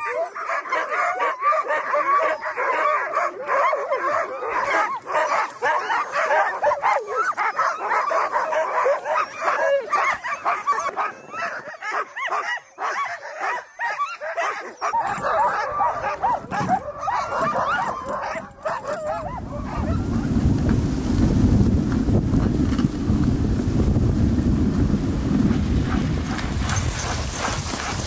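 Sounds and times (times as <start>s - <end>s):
dog sled rushing over snow: 0.0s - 12.4s, 14.8s - 28.0s
sled dogs yipping and howling: 0.0s - 20.9s, 25.4s - 28.0s.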